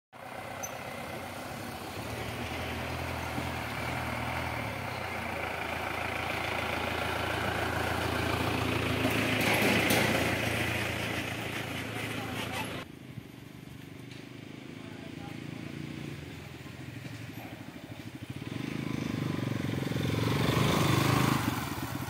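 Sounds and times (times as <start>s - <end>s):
vehicle engine humming: 0.2s - 22.0s.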